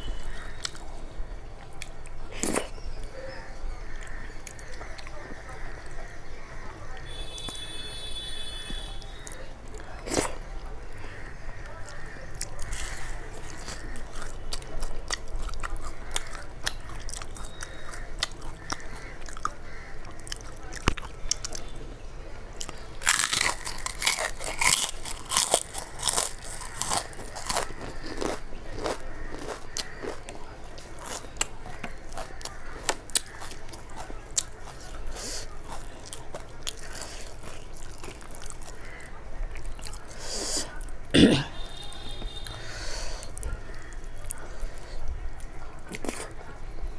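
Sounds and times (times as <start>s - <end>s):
crunching fried food: 0.0s - 46.9s
soft chewing and mouth clicks: 0.0s - 46.9s.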